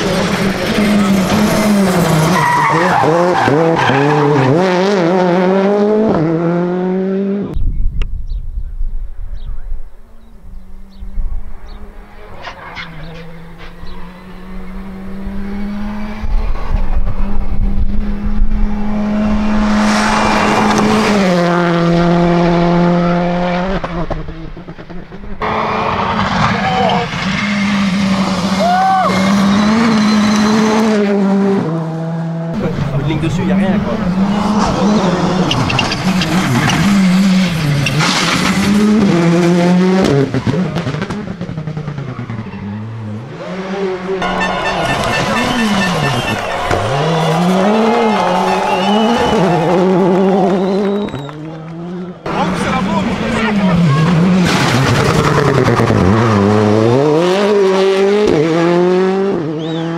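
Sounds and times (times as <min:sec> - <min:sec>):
rally car engine at high revs: 0:00.0 - 0:07.6, 0:10.8 - 0:59.9.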